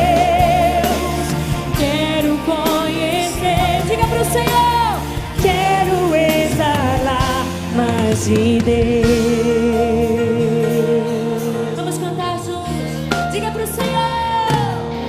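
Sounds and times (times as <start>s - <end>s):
full band playing: 0.0s - 15.0s
woman singing with vibrato: 0.0s - 15.0s.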